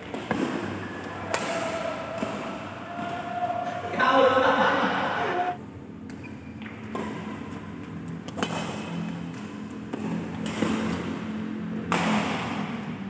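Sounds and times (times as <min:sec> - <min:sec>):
rackets hitting shuttlecock: 0:00.0 - 0:03.9, 0:06.0 - 0:13.0
steady background hum: 0:00.0 - 0:13.0.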